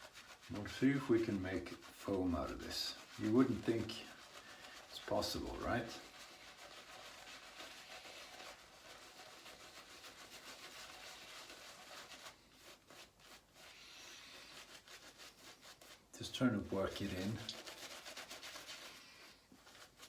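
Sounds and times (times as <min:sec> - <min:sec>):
shaving brush rubbing lather: 0:00.0 - 0:20.0.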